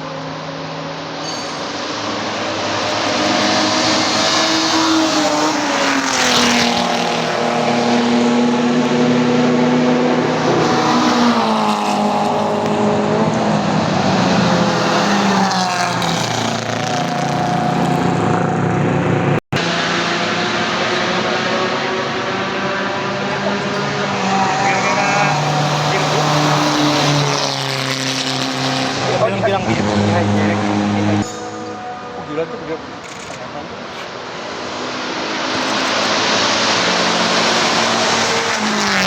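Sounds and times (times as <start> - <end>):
racing car engines passing: 0.0 - 39.0.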